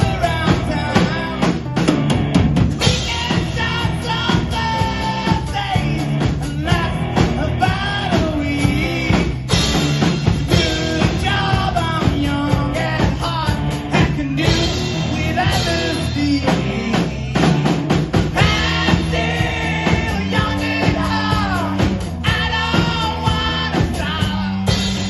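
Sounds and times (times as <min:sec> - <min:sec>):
person singing lead vocals: 0:00.0 - 0:01.9, 0:02.8 - 0:09.8, 0:10.4 - 0:25.0
bass guitar: 0:00.0 - 0:25.0
drum kit: 0:00.0 - 0:25.0
electric guitars: 0:00.0 - 0:25.0.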